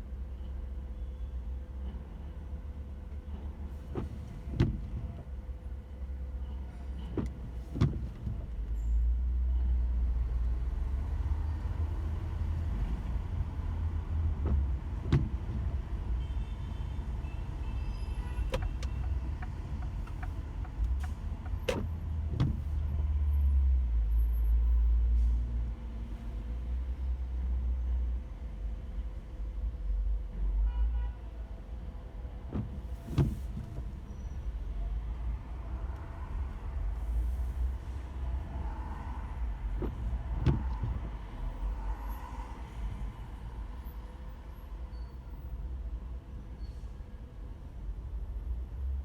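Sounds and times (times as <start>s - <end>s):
engine and road rumble: 0.0s - 49.0s.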